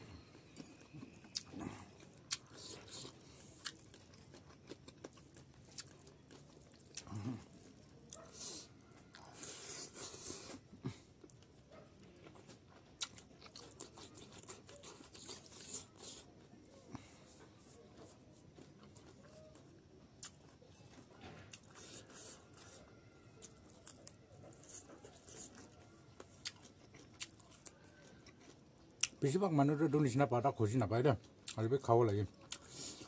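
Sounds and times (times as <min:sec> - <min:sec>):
chewing and mouth smacking: 0:00.2 - 0:29.2, 0:32.3 - 0:33.0.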